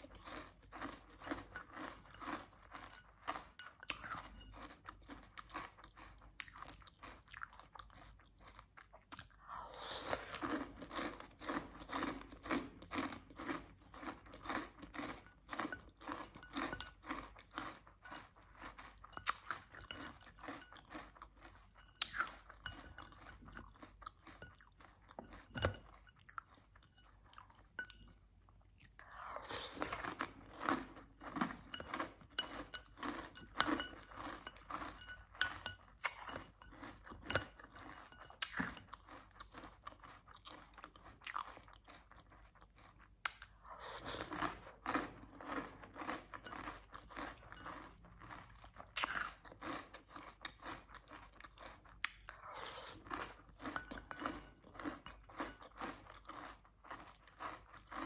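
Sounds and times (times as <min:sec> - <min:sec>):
crunchy cereal chewing: 0:00.0 - 0:58.0.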